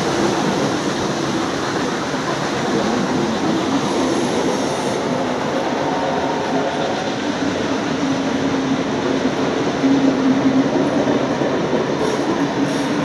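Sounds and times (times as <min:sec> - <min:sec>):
train wheel and rail noise: 0:00.0 - 0:13.0.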